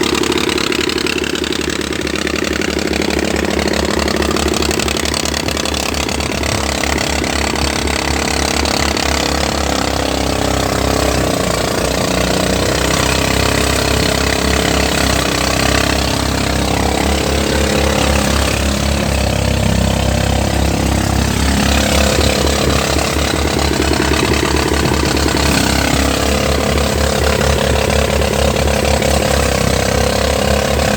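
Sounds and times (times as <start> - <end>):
threshing machine engine running: 0.0 - 30.9.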